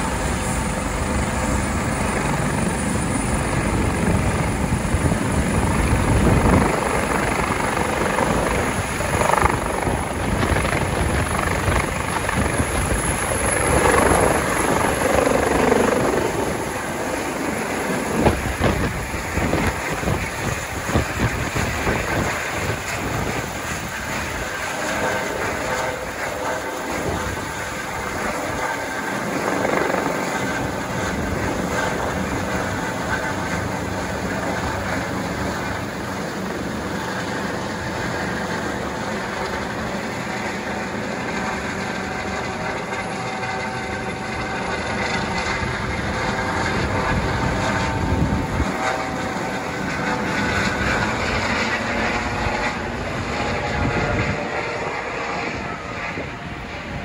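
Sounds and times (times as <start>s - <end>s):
helicopter turbine and rotor noise: 0.0s - 57.0s.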